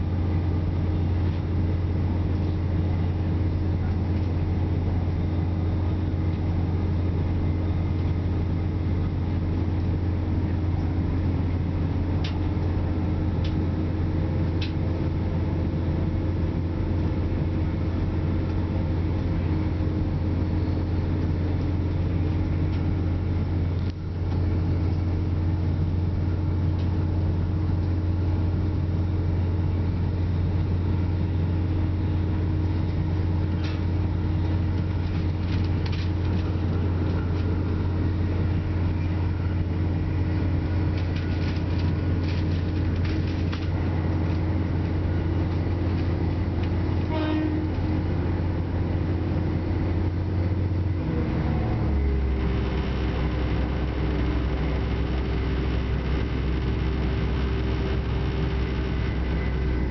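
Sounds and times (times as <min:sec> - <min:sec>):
train interior diesel drone: 0:00.0 - 0:59.9.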